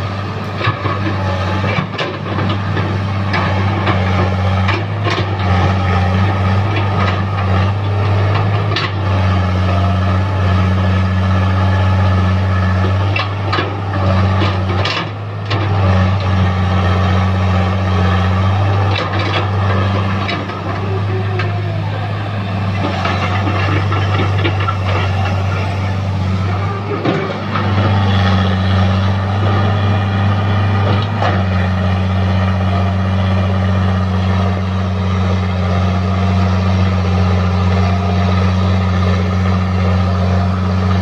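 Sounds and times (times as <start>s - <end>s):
excavator diesel engine: 0.0s - 41.0s.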